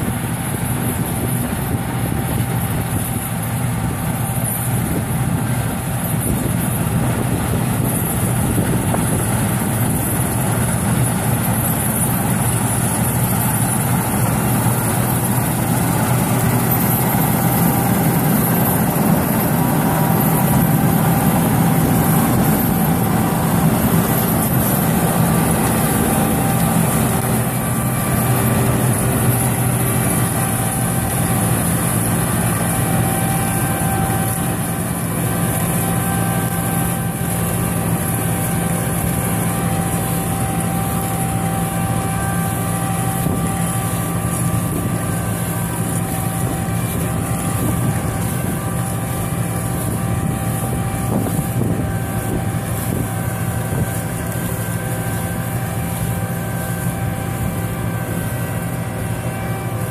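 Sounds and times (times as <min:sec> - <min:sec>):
combine harvester drone: 0:00.0 - 0:59.9
machine whining tones: 0:00.4 - 0:59.9.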